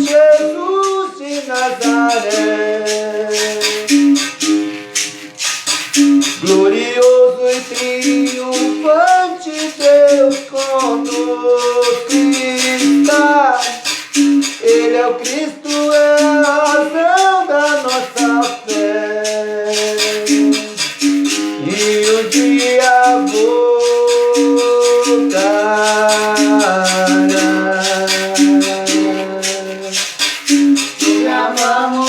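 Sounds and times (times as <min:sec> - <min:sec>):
person singing gospel song: 0:00.0 - 0:04.9, 0:06.3 - 0:32.0
berimbau: 0:00.0 - 0:32.0
rattle shaken in rhythm: 0:00.0 - 0:32.0.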